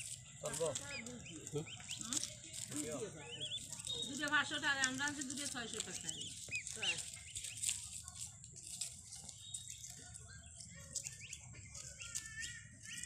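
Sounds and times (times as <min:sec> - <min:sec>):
goslings peeping: 0:00.0 - 0:13.0
rustling in dry leaves: 0:00.0 - 0:13.0.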